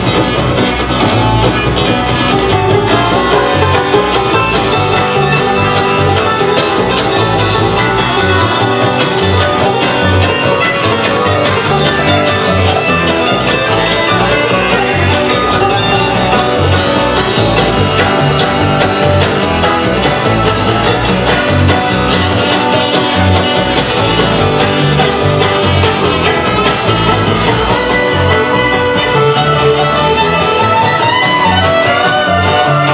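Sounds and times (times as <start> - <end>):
acoustic guitar: 0.0 - 32.9
fiddle: 0.0 - 32.9
picked banjo: 0.0 - 32.9
upright bass walking: 0.0 - 32.9.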